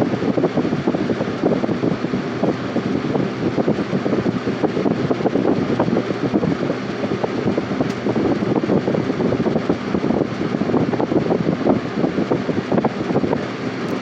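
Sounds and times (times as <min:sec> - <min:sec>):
box fan running: 0:00.0 - 0:14.0.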